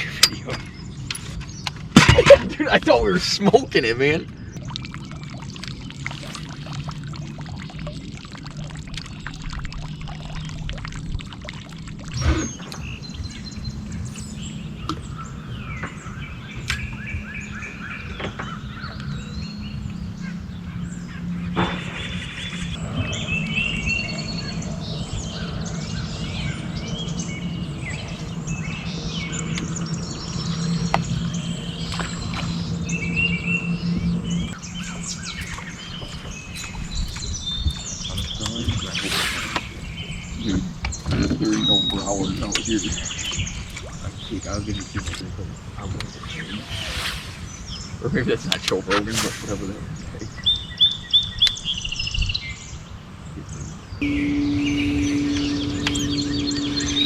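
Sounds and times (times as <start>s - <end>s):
steady low hum: 0.0s - 50.6s, 53.2s - 57.0s
birds chirping and singing: 0.0s - 57.0s.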